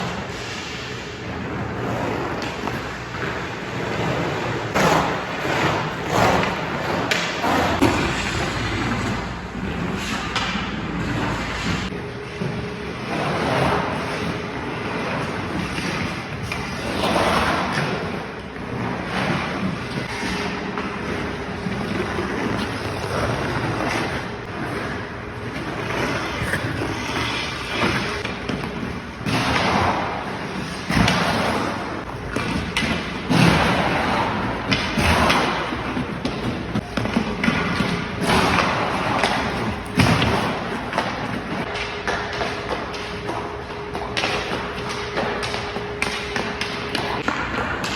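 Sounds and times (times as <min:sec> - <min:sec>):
ice skates scraping on ice: 0:00.0 - 0:47.9.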